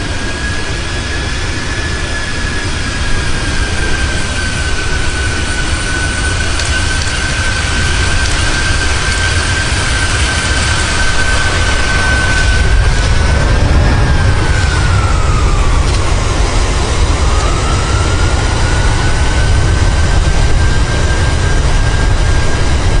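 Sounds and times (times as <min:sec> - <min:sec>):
thin whining tone: 0:00.0 - 0:23.0
wind buffeting microphone: 0:00.0 - 0:23.0.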